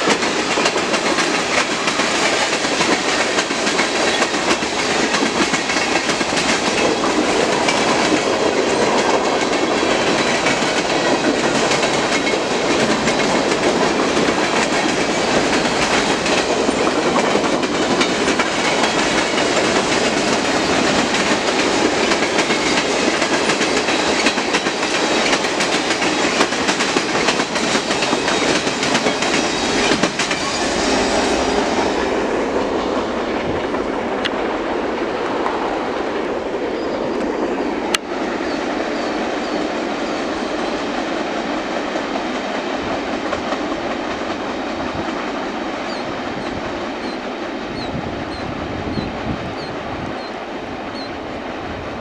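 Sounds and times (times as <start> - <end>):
train wheels clicking over rail joints: 0.0 - 34.6, 37.2 - 47.9
train rumble: 0.0 - 52.0.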